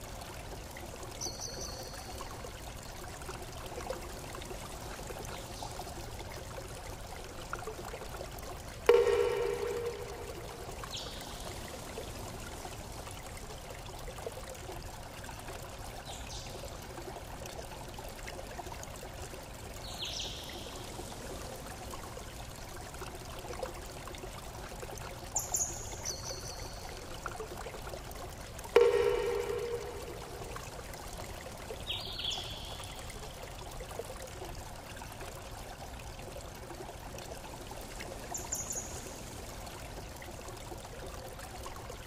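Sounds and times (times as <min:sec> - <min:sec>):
flowing water: 0:00.0 - 0:42.0.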